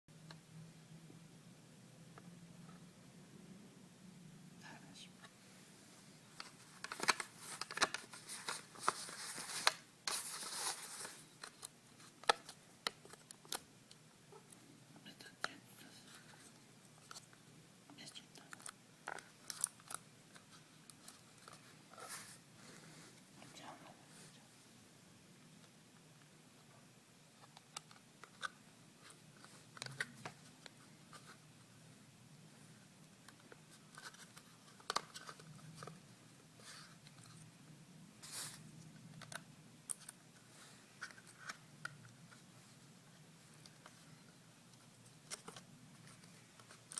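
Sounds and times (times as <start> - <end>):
faint low hum: 0.1 - 46.9.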